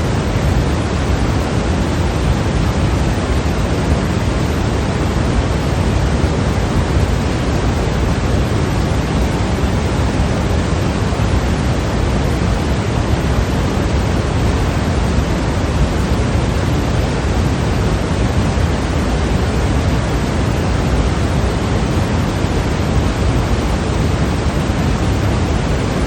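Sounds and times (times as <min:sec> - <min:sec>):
steady white noise hiss: 0:00.0 - 0:26.0.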